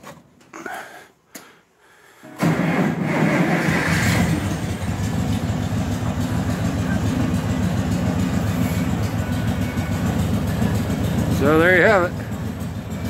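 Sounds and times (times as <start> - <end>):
tractor engine running: 2.4 - 13.0.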